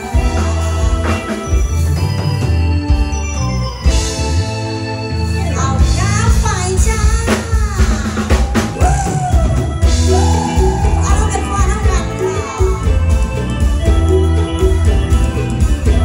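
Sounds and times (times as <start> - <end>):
drum kit: 0.0 - 16.0
electric guitar: 0.0 - 16.0
keyboard: 0.0 - 16.0.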